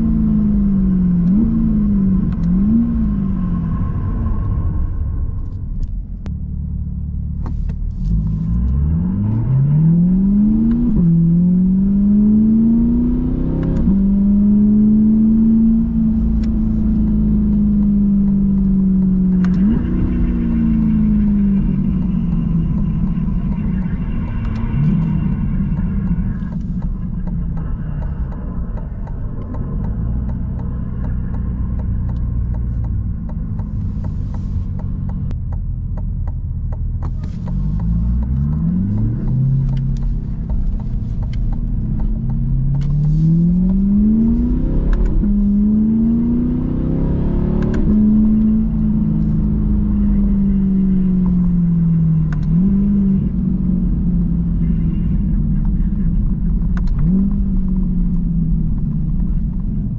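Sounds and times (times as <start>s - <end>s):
car engine revving: 0.0s - 59.9s
road rumble: 0.0s - 59.9s.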